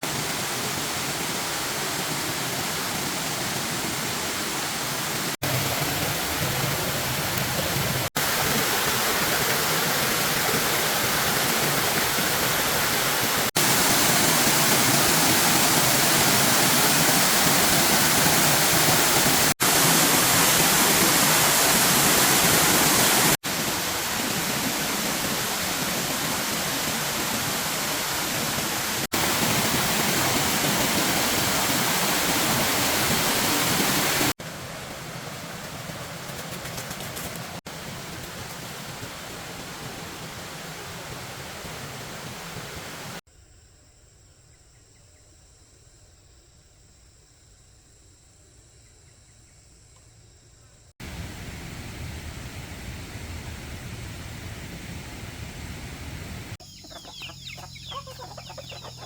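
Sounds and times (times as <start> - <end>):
waterfall rushing: 0.0 - 36.6, 37.3 - 43.2, 51.0 - 56.6.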